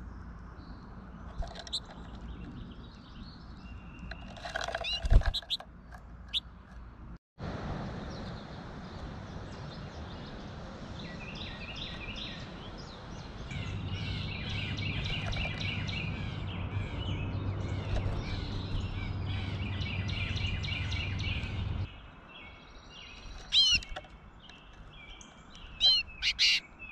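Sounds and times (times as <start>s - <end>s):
small birds twittering: 0.0s - 6.8s, 7.8s - 26.9s
outdoor background noise: 0.0s - 26.9s.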